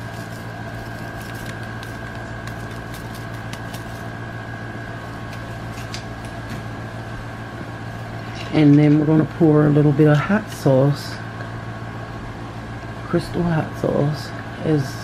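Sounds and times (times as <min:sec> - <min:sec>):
appliance humming with whine: 0:00.0 - 0:15.0.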